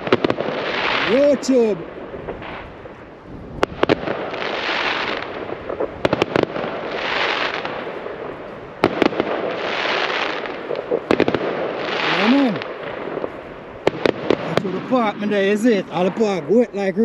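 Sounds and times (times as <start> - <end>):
fireworks bangs: 0.0 - 17.0
fireworks hiss: 0.0 - 17.0.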